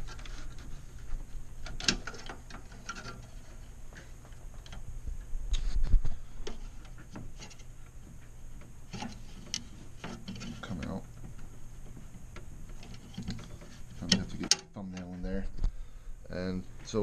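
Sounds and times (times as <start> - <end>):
cable connectors clicking and rattling: 0.0 - 4.8, 5.5 - 15.7.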